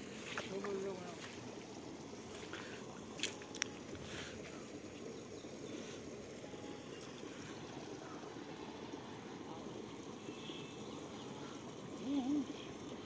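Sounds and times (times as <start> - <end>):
low rushing background noise: 0.0 - 13.0.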